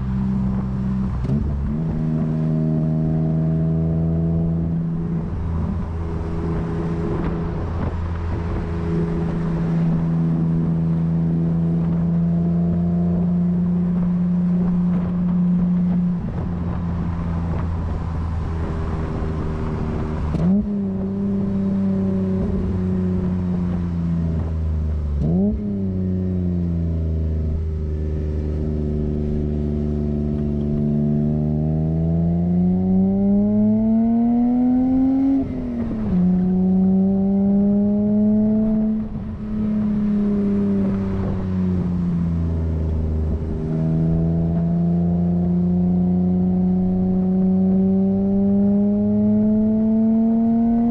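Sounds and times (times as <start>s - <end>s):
car engine and exhaust accelerating: 0.0s - 50.9s.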